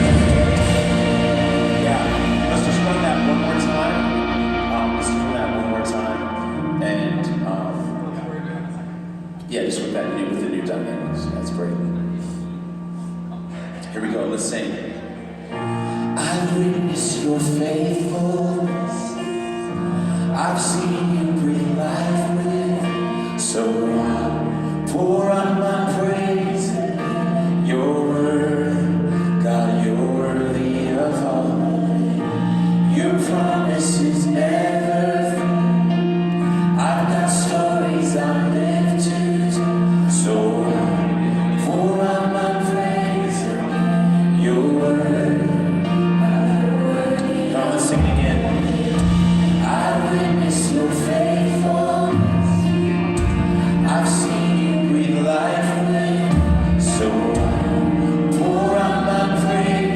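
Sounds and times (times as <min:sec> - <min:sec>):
choir singing gospel: 0:00.0 - 0:59.9.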